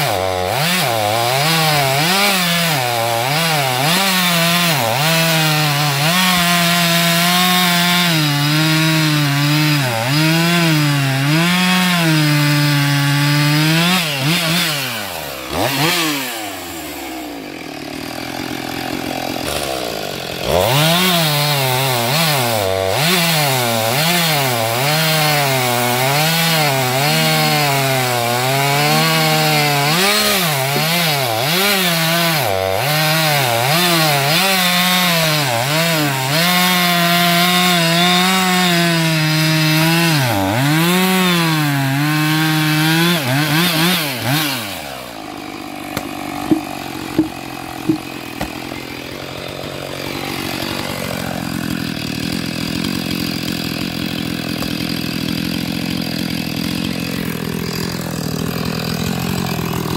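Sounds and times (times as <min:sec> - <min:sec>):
chainsaw cutting into log: 0:00.0 - 0:59.9.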